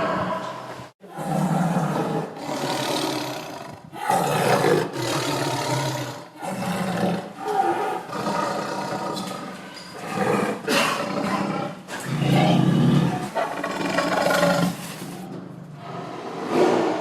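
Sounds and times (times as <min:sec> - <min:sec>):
tiger roaring: 0:00.0 - 0:17.0.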